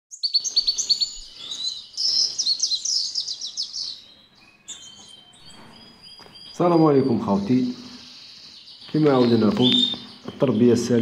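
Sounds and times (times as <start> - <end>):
bird chirps and trill: 0.1 - 11.0.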